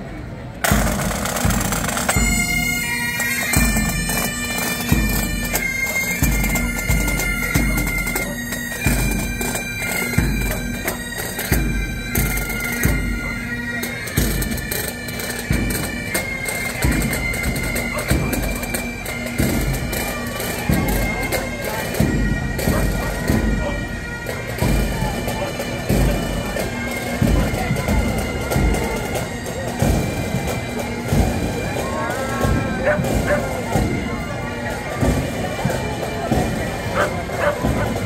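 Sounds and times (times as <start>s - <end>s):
bagpipes playing: 0.6s - 38.0s
marching drums beating: 0.6s - 38.0s.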